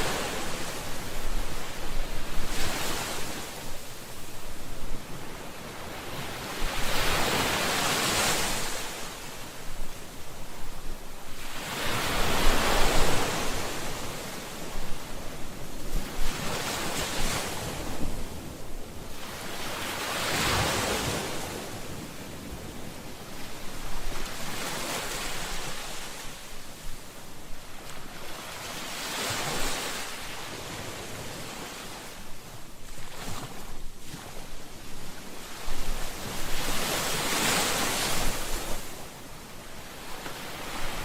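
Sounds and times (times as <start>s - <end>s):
ocean waves on a shore: 0.0s - 41.0s.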